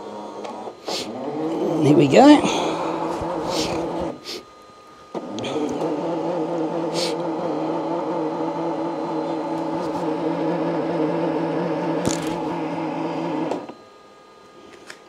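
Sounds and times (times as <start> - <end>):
printer motor whirring: 0.0 - 14.0.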